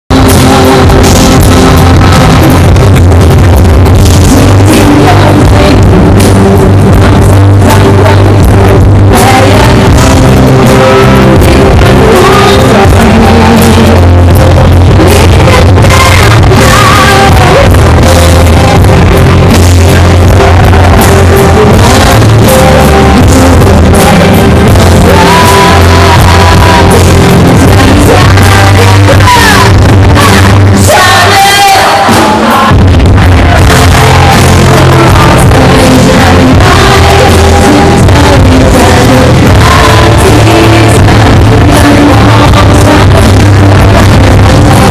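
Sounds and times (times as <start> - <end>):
heavy bass band backing: 0.0 - 44.9
woman singing into microphone: 3.9 - 44.9.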